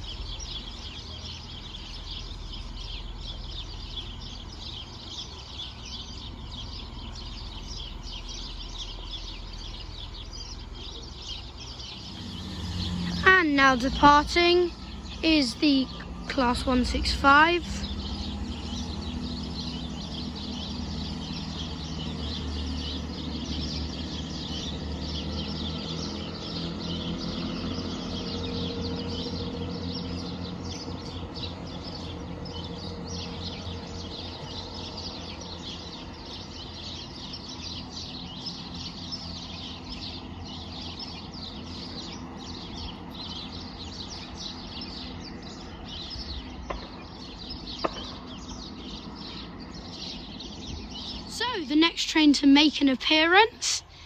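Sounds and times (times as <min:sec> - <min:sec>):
small birds chirping: 0:00.0 - 0:54.0
train engine drone: 0:00.0 - 0:54.0.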